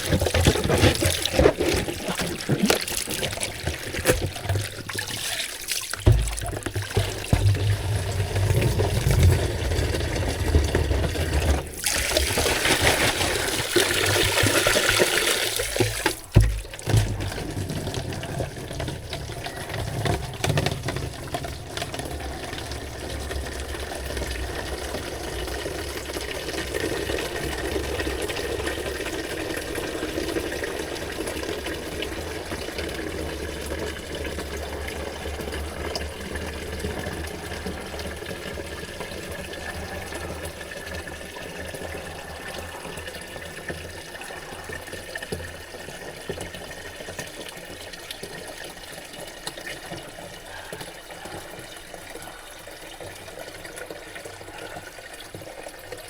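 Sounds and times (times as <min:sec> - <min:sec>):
water running: 0:00.0 - 0:56.0.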